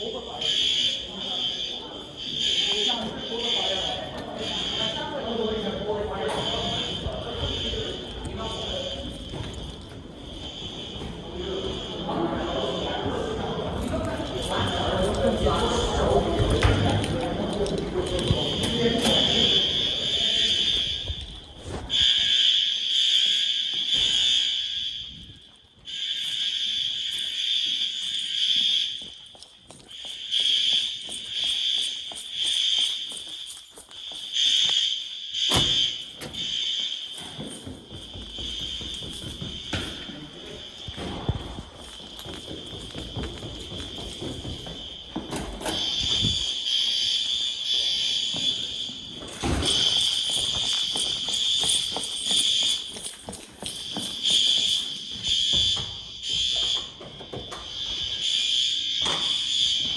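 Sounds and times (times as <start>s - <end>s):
fire alarm horns: 0.0s - 59.9s.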